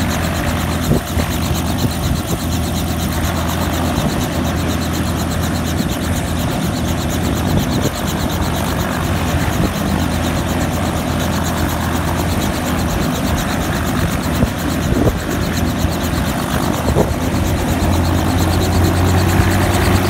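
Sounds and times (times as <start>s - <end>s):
helicopter engine drone: 0.0s - 20.0s
rotor blades chopping: 0.0s - 20.0s.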